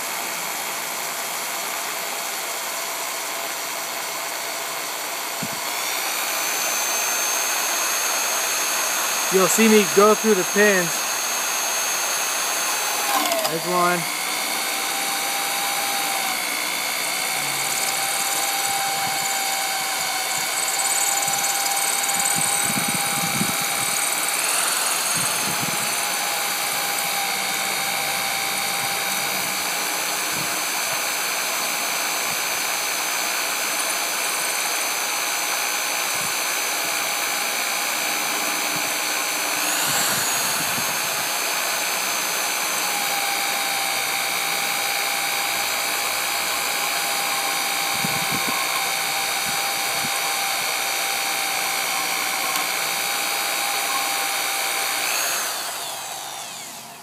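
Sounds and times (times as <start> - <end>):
electric drill boring into metal: 0.0 - 57.0.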